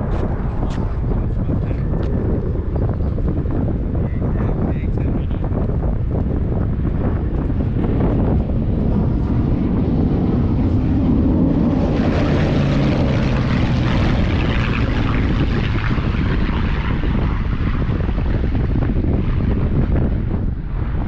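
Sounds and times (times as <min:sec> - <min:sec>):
propeller airplane flying past: 0:00.0 - 0:21.0
wind buffeting microphone: 0:00.0 - 0:21.0.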